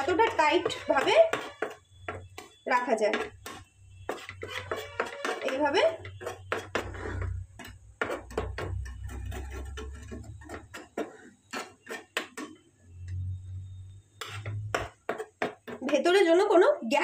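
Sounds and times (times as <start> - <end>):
spatula tapping frying pan: 0.0 - 13.3, 14.2 - 16.1.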